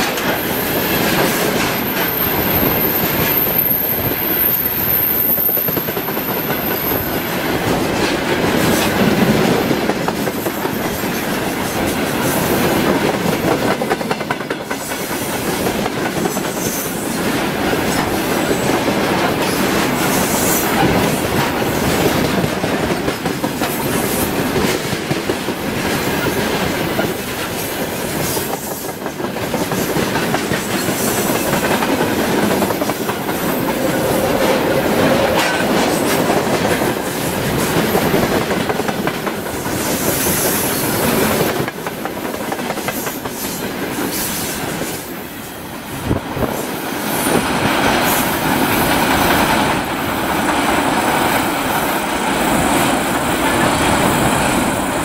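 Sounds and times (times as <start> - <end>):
train wheels rumbling and clacking: 0.0 - 55.0.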